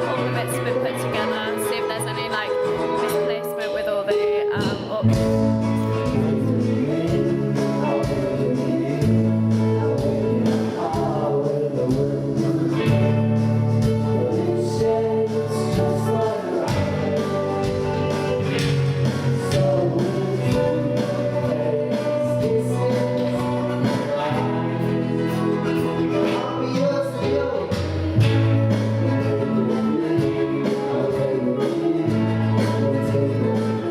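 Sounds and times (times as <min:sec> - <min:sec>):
drums beat: 0:00.0 - 0:33.9
live band playing: 0:00.0 - 0:33.9
person singing: 0:00.0 - 0:33.9.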